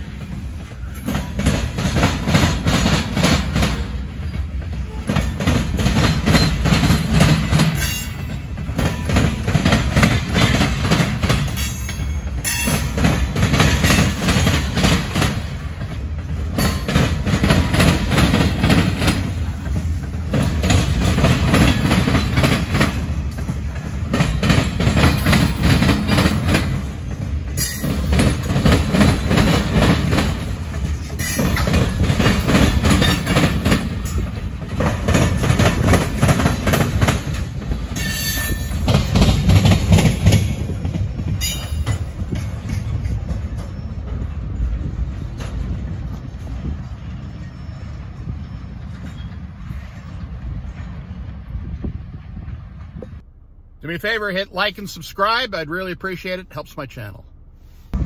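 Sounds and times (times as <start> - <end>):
wheels clacking over rail joints: 0.0 - 51.6
freight train wheels rumbling: 0.0 - 58.0.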